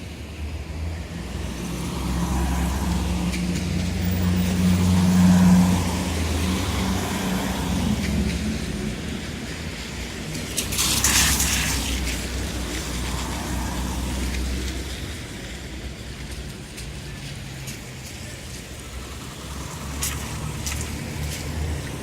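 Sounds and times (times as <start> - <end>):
tyres hissing on wet road: 0.0 - 22.0.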